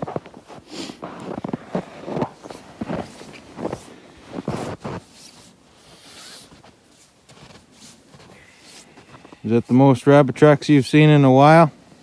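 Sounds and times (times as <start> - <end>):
footsteps crunching in snow: 0.0 - 10.1
rustling of snow and clothing: 0.0 - 12.0.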